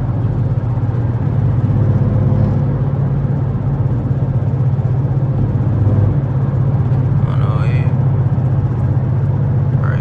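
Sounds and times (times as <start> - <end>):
car engine drone: 0.0 - 10.0.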